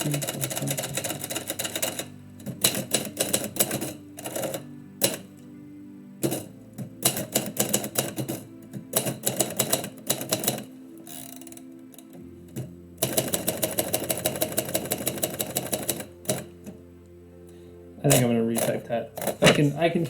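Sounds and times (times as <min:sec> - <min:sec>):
typewriter typing: 0:00.0 - 0:05.5, 0:06.2 - 0:16.8, 0:18.1 - 0:19.7
quiet background music: 0:00.0 - 0:20.0.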